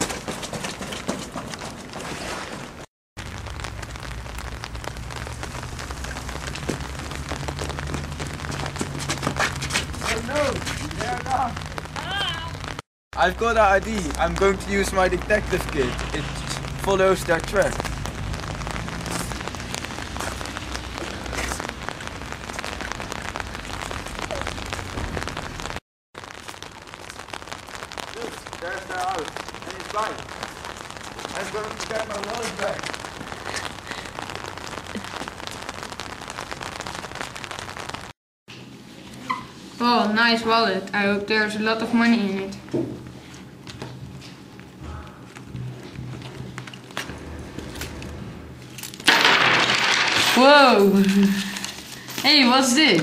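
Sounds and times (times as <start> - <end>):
crackly outdoor noise: 0.0 - 53.0
steady rain: 2.7 - 53.0.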